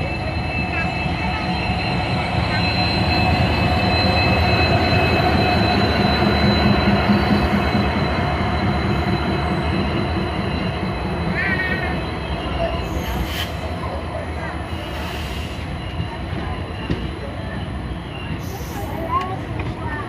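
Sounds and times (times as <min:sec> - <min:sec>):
train rumbling: 0:00.0 - 0:20.0
wheels and brakes squealing: 0:00.0 - 0:20.0.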